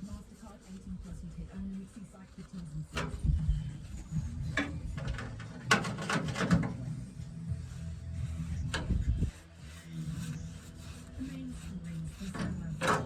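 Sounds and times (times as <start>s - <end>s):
hand rubbing and scraping: 0.0s - 13.0s
steady low hum: 0.0s - 13.0s.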